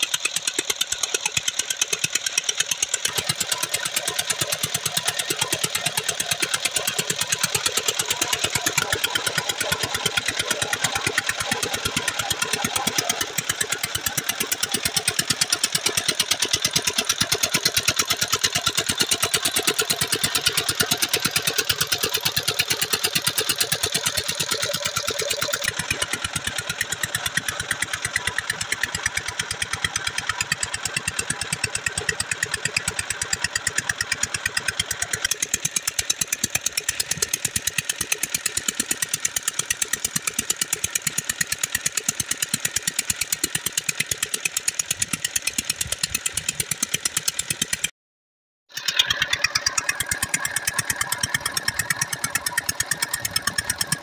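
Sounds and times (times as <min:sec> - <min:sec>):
diesel engine running: 0:00.0 - 0:47.9, 0:48.8 - 0:54.0.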